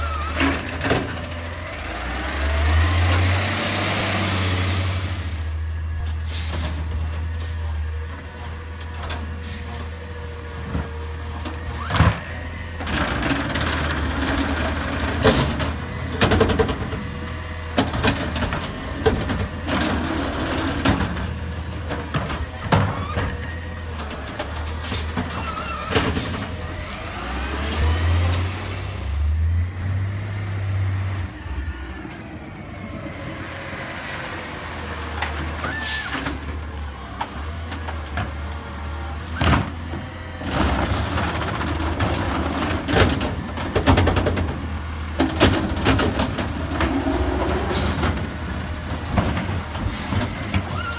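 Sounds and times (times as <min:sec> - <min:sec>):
cart clanking and banging: 0:00.0 - 0:28.8, 0:31.2 - 0:50.9
garbage truck engine running: 0:00.0 - 0:50.9.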